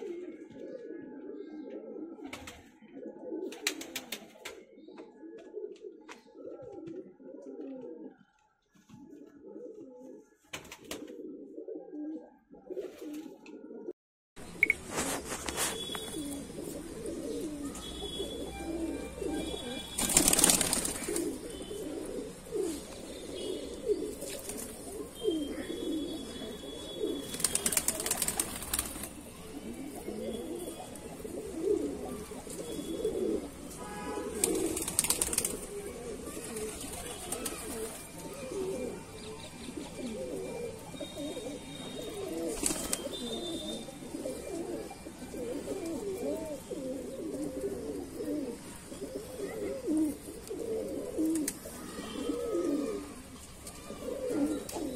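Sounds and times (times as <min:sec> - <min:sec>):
pigeons cooing: 0:00.0 - 0:14.0, 0:14.9 - 0:54.9.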